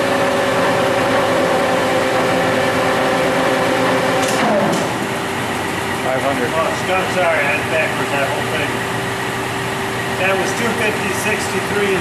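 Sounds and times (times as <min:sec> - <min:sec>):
lathe gearing whine: 0:00.0 - 0:12.0.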